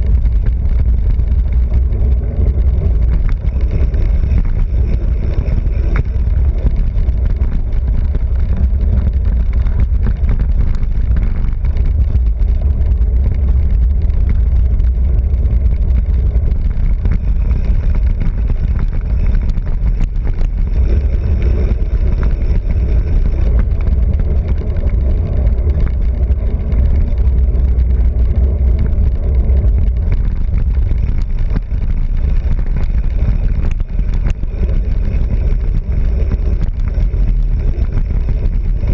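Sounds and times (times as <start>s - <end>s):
bicycle road noise: 0.0s - 38.9s
wind buffeting microphone: 0.0s - 38.9s.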